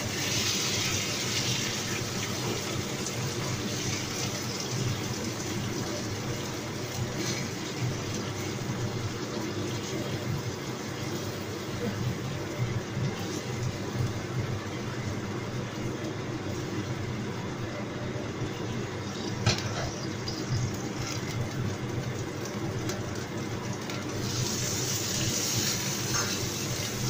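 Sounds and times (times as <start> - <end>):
mushrooms sizzling in hot oil: 0.0 - 17.5, 18.8 - 27.0
gas burner rumble: 0.0 - 27.0.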